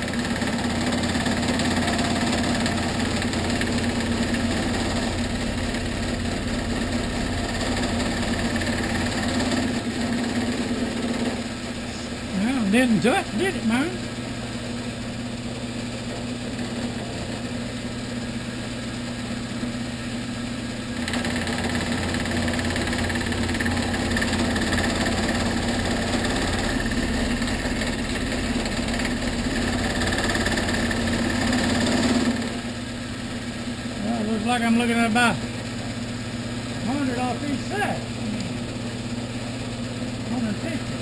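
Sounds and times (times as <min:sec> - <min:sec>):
milling machine cutting metal: 0:00.0 - 0:20.0, 0:20.9 - 0:41.0.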